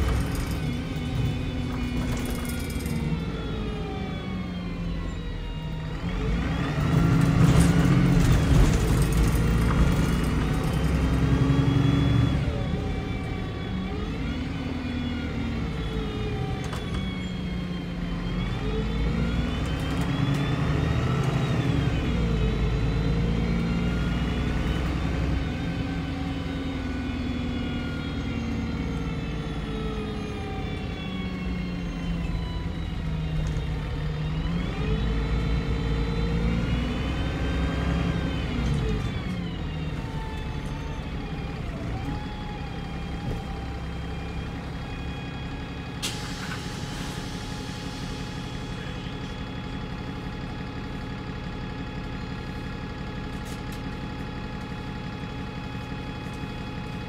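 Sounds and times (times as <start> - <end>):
bus engine rumbling: 0.0 - 57.0
drivetrain whine: 0.0 - 57.0.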